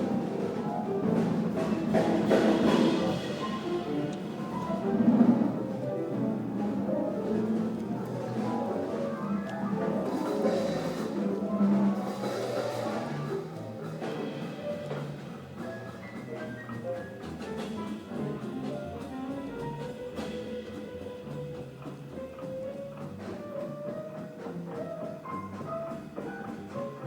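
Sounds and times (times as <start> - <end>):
jazz piano trio playing: 0.0 - 27.0.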